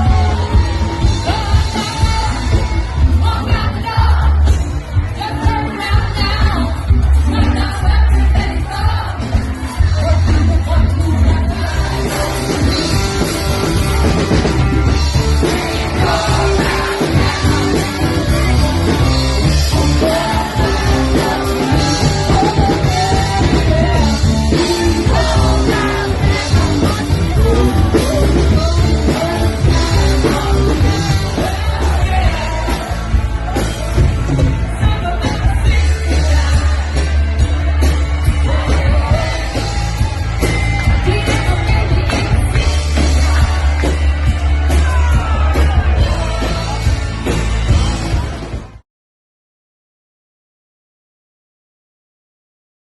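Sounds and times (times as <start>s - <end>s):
heavy bass: 0.0s - 48.8s
live rock band with singing: 0.0s - 48.8s.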